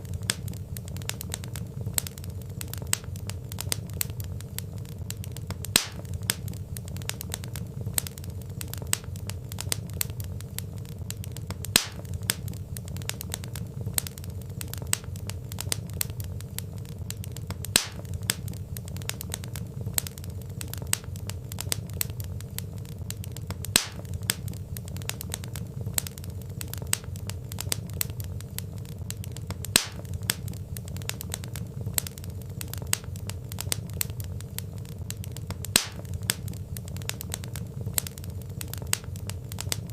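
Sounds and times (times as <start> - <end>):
wood fire rumbling and crackling: 0.0 - 39.9.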